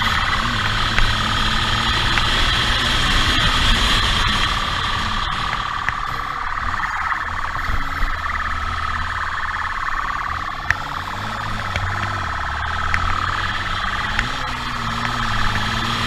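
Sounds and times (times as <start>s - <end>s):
motorcycle engine running: 0.0s - 16.0s
police siren warbling: 0.0s - 16.0s.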